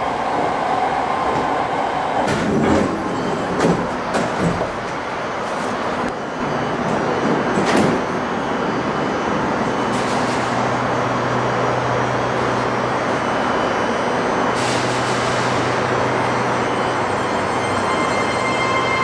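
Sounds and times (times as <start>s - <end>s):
train rumble with motor hum: 1.3s - 19.0s.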